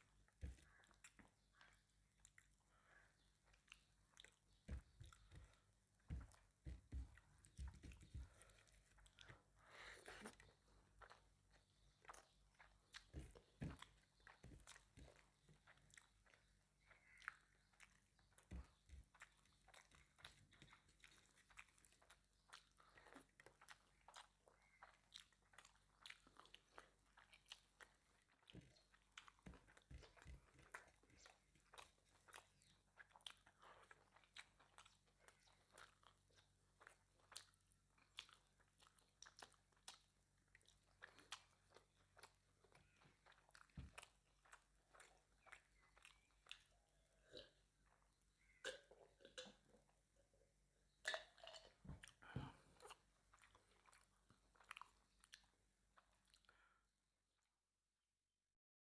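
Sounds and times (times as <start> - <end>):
person chewing: 0.0 - 49.8, 51.0 - 56.7.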